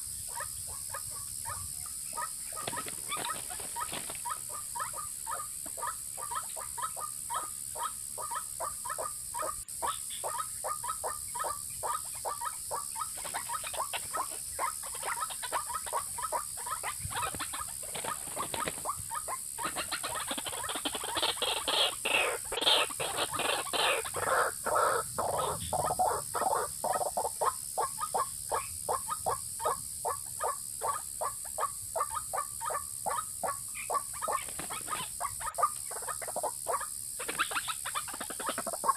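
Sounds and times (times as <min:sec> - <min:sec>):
bird croaking call: 0:00.0 - 0:38.9.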